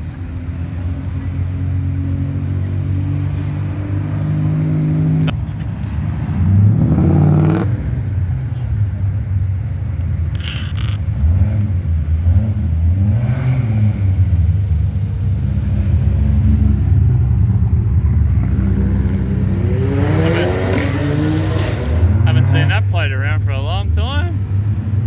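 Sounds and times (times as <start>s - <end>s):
car engine revving: 0.0s - 9.2s, 10.2s - 25.0s.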